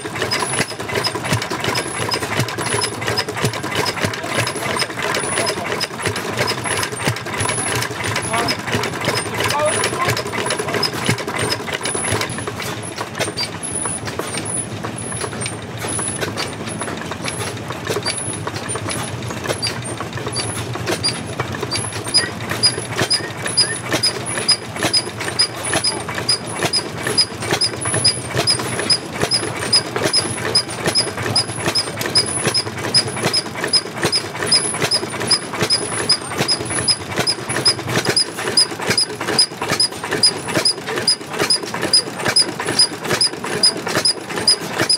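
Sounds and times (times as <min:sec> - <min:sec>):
stationary engine running: 0:00.0 - 0:44.9.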